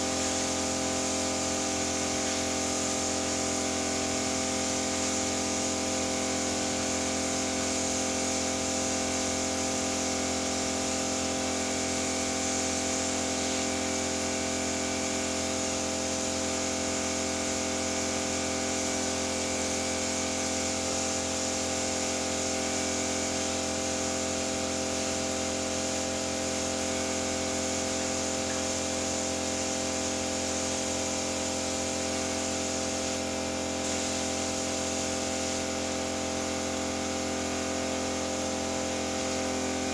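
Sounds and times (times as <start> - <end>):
workshop machinery hum: 0.0 - 39.9.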